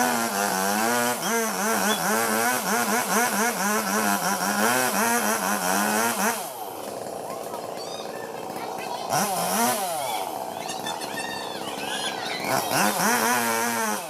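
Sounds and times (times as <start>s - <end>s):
chainsaw running at high revs: 0.0s - 14.0s.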